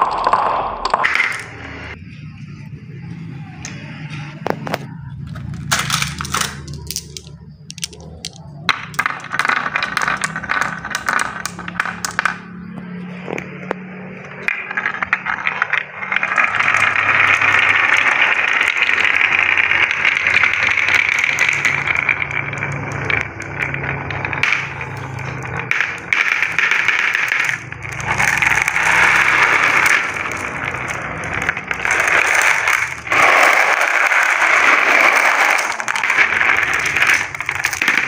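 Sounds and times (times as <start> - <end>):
marbles rattling on wood: 0.0 - 2.1, 4.4 - 38.0.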